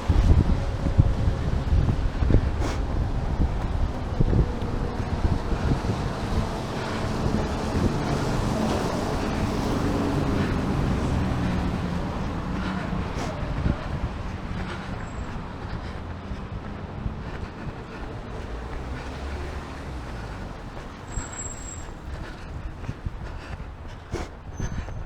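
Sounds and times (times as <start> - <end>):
passing road traffic rumble: 0.0 - 25.0.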